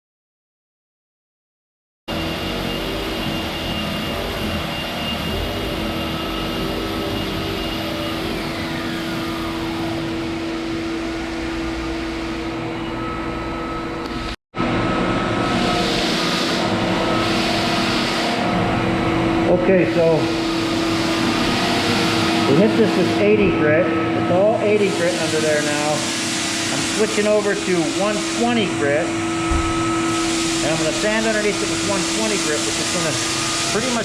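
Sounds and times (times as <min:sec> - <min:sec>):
power sander grinding wood: 0:02.2 - 0:12.4, 0:15.5 - 0:34.0.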